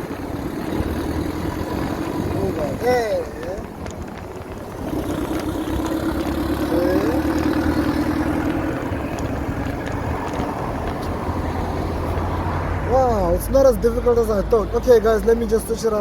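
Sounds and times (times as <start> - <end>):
motorbike wind and road noise: 0.0 - 16.0.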